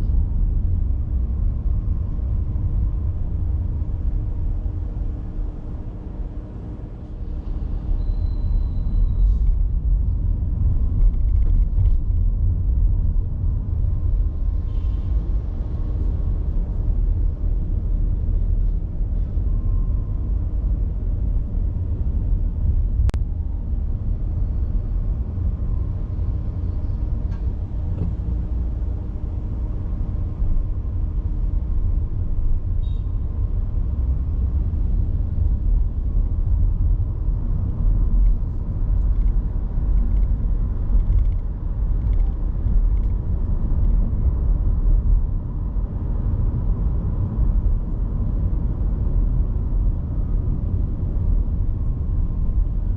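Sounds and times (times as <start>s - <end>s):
car driving road noise: 0.0s - 52.9s.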